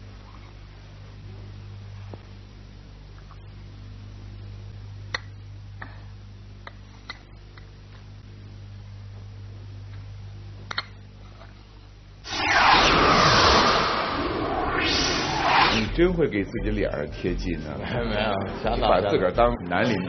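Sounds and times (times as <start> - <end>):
low hum: 0.0 - 19.7.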